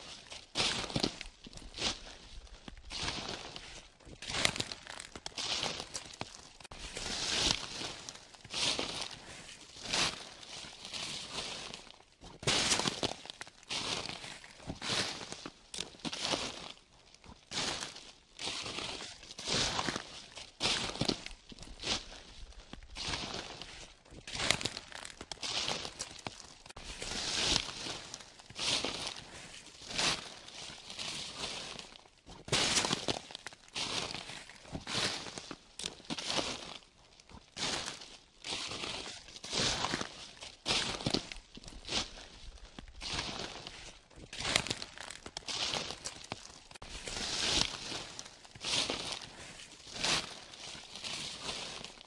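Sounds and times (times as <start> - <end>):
footsteps crunching dry leaves: 0.0 - 52.0.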